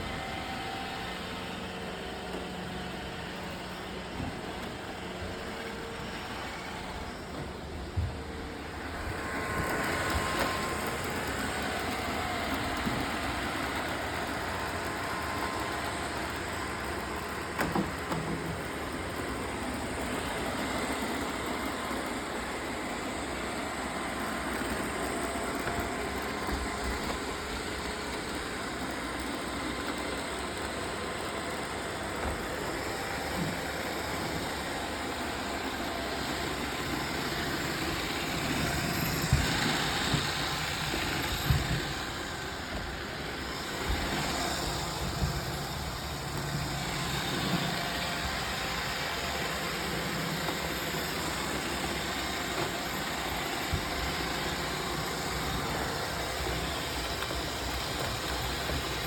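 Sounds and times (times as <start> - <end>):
robot vacuum whirring: 0.0 - 59.0.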